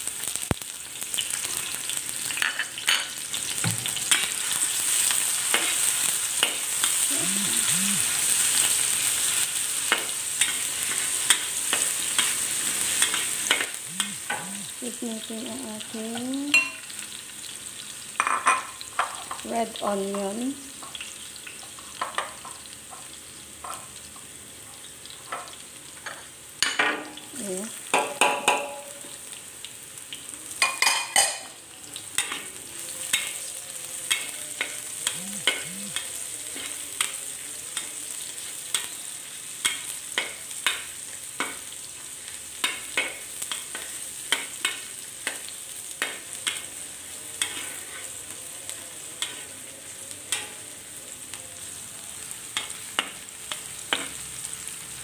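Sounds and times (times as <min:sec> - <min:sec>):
garlic and onion sizzling in oil: 0:00.0 - 0:55.0.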